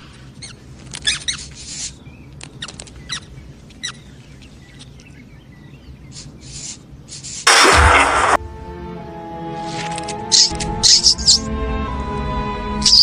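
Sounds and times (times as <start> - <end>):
faint background ambience: 0.0 - 13.0.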